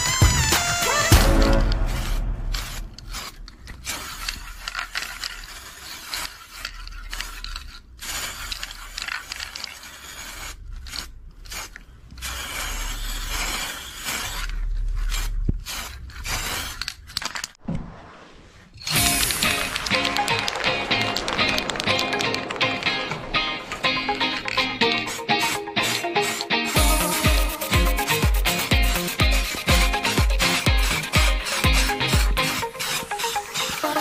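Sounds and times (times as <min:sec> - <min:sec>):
spray paint can hissing: 0:00.0 - 0:07.4, 0:08.0 - 0:16.8, 0:18.8 - 0:34.0.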